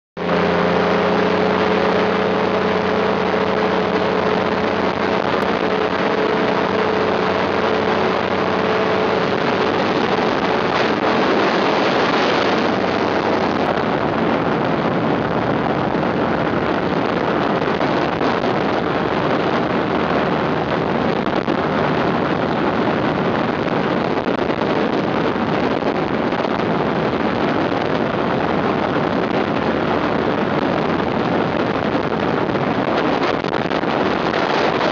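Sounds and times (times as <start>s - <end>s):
dense rushing noise: 0.2s - 34.9s
ultralight aircraft engine drone: 0.2s - 34.9s.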